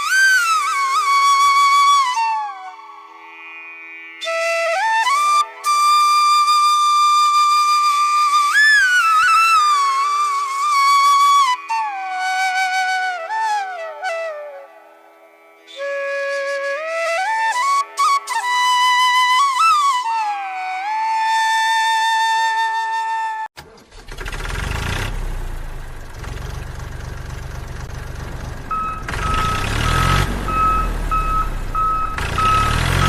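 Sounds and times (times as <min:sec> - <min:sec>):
flute melody with slides: 0:00.0 - 0:23.5, 0:28.7 - 0:33.0.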